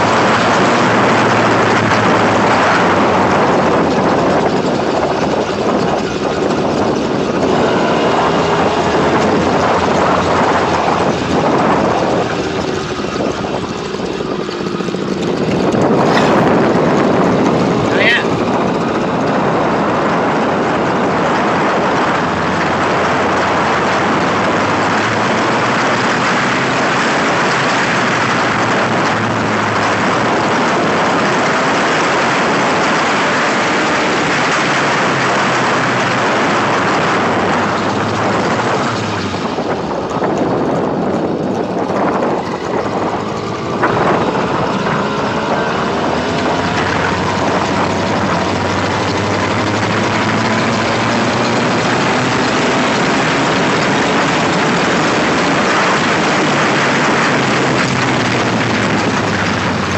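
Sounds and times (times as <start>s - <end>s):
small engine running: 0.0s - 59.9s
wind rush on microphone: 0.0s - 59.9s.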